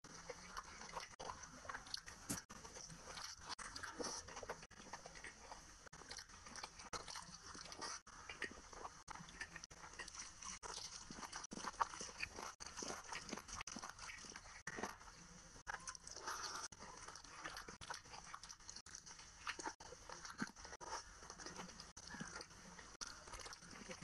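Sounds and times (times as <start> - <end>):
wet chewing and mouth smacks: 0.0 - 24.0
fingers squelching rice: 0.1 - 24.0.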